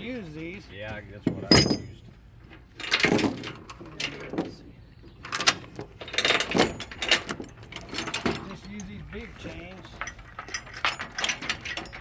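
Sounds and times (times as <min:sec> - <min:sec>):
steel chains clanking and rattling: 0:01.2 - 0:12.0.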